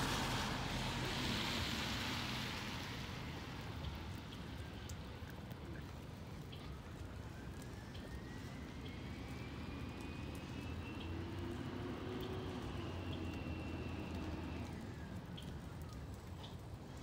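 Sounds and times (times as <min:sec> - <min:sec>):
vehicle engine rumble and whine: 0:00.0 - 0:17.0.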